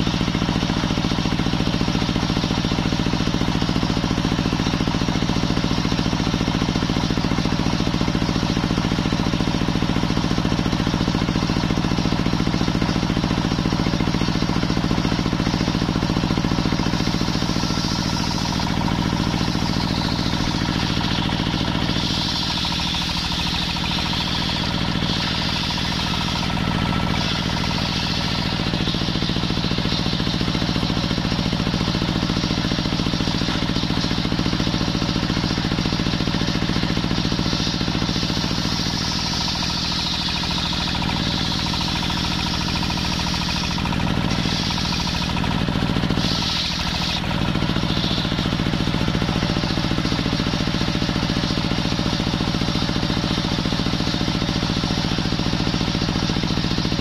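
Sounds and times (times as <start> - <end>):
stationary engine running: 0.0 - 57.0
circular saw cutting wood: 6.5 - 57.0.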